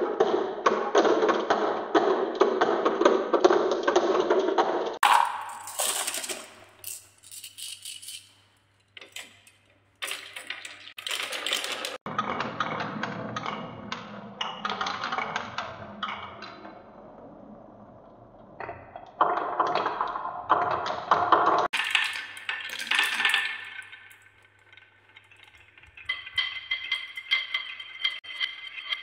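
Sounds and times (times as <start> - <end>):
marbles rolling on wooden track: 1.0 - 16.7, 18.8 - 29.0.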